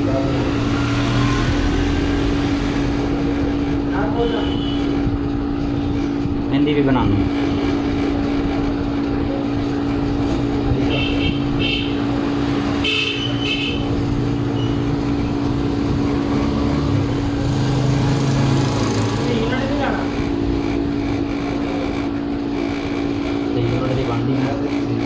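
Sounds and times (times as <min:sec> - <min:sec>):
low mechanical hum: 0:00.0 - 0:25.0
road traffic: 0:00.0 - 0:25.0.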